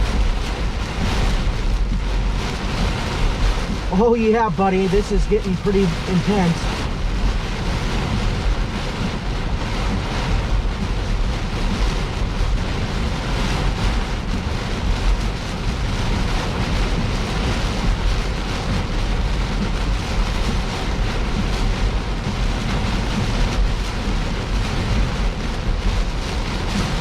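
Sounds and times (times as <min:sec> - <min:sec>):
car rumbling on road: 0:00.0 - 0:27.0
heavy rain and wind on car: 0:00.0 - 0:27.0.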